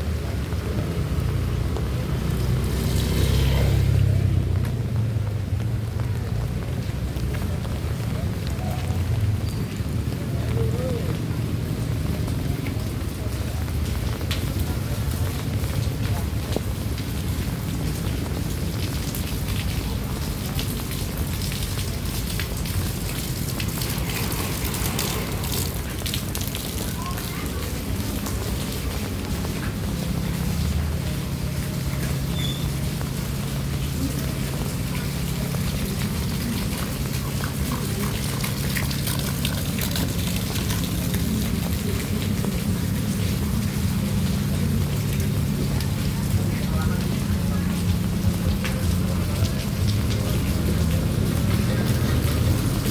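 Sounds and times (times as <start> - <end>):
steady rain hiss: 0.0 - 52.9
constant low rumble: 4.1 - 52.9
drips and taps: 4.5 - 52.9.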